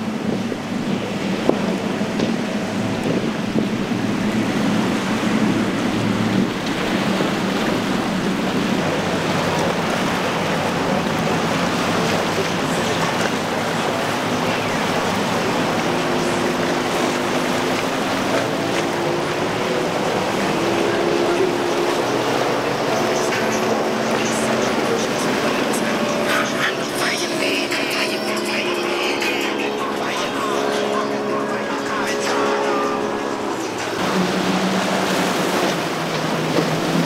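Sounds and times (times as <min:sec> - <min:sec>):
outboard engine drone: 0:00.0 - 0:37.0
rush of spray and surf: 0:00.0 - 0:37.0
wind on microphone: 0:00.0 - 0:37.0.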